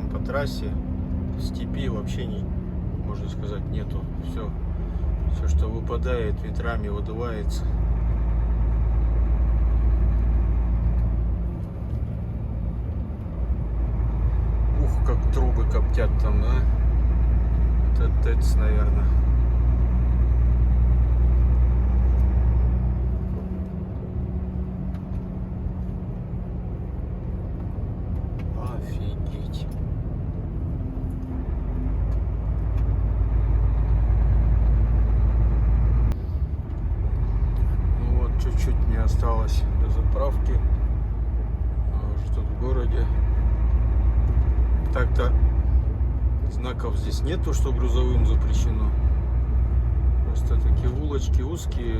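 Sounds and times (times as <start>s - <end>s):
road noise: 0.0s - 51.9s
truck diesel engine rumbling: 0.0s - 51.9s.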